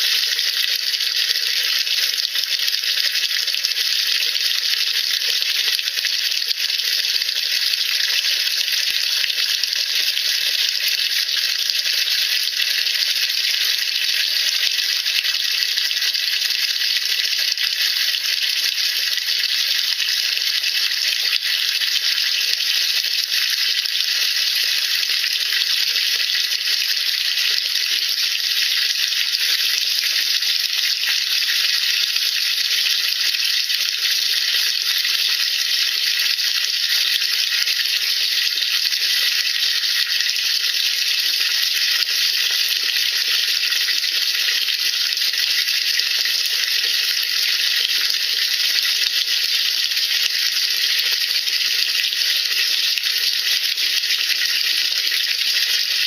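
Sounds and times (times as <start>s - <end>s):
water fizzing in a tub: 0.0s - 56.0s.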